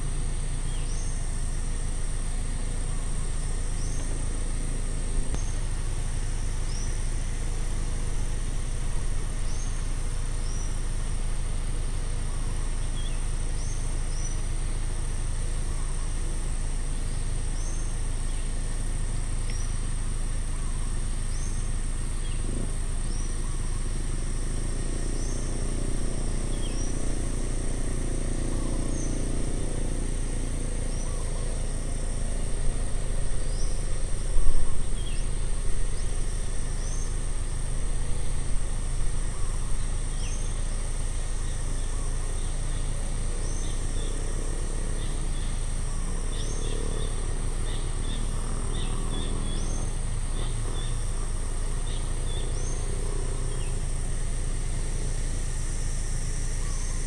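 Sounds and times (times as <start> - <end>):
distant vehicle hum: 0.0 - 57.0
high insect drone: 0.0 - 57.0.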